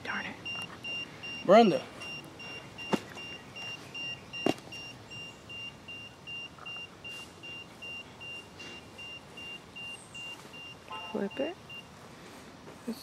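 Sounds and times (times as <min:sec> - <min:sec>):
short high beeps: 0:00.4 - 0:11.9.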